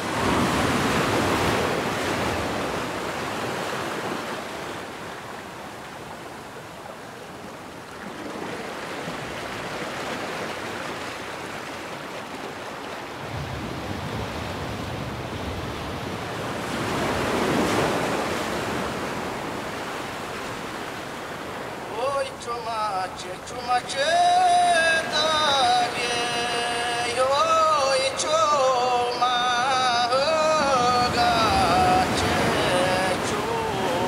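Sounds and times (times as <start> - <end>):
small waves breaking on shore: 0.0 - 34.0.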